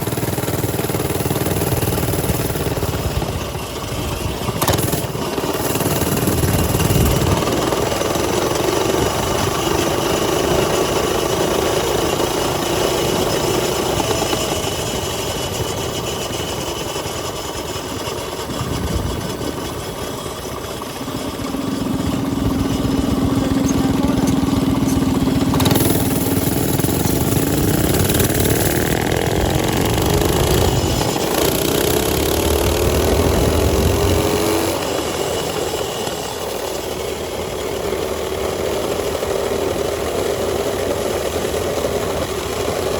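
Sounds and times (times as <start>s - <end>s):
mini bike engines idling and revving: 0.0s - 42.9s.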